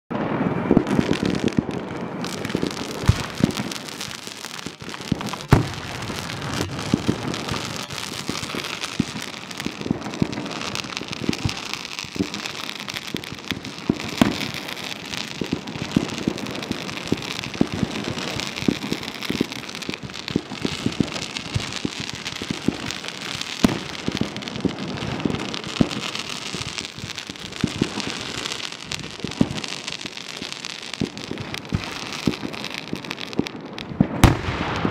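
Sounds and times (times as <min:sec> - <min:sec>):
fireworks popping and crackling: 0:00.1 - 0:34.9
loud firework bangs: 0:00.1 - 0:34.9.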